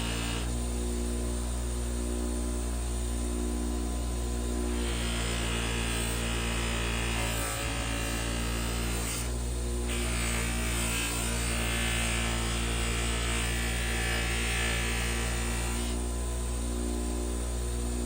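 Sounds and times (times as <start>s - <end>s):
bench grinder motor humming: 0.0s - 0.7s, 3.8s - 18.0s.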